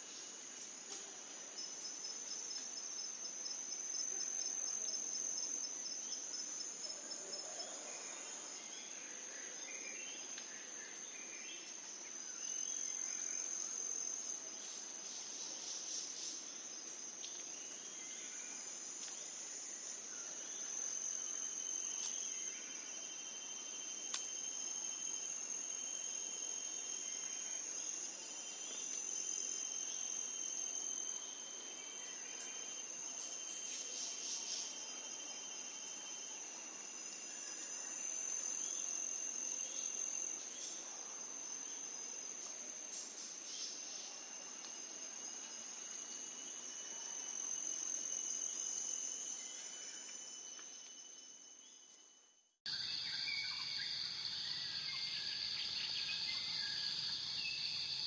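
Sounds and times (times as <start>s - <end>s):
lower broken insect trill: 1.5s - 58.0s
high-pitched insect trilling: 8.2s - 58.0s.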